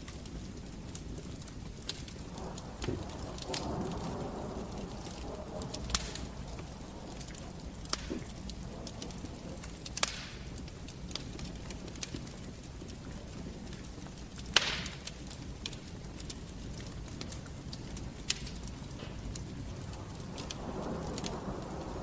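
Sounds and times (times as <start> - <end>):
fire hissing: 0.0 - 22.0
wood fire crackling: 0.0 - 22.0.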